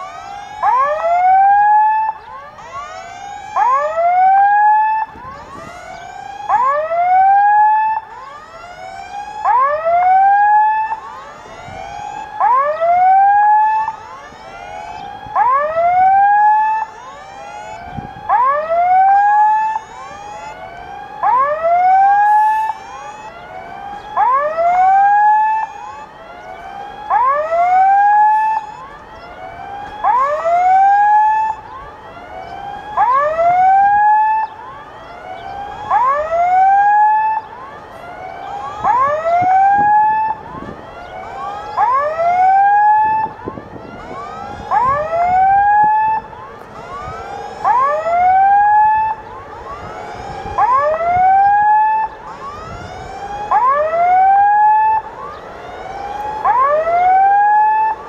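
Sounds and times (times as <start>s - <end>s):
level crossing warning alarm: 0.0s - 58.0s.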